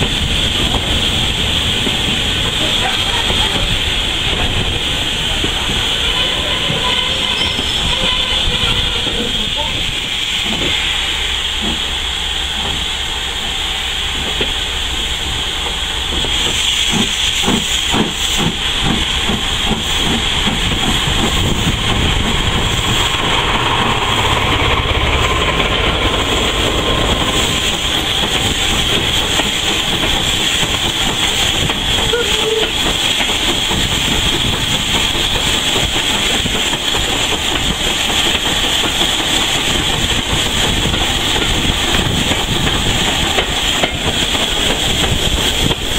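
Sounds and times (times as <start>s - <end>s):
train clicks: 0.0s - 45.9s
train hissing rush: 0.0s - 45.9s.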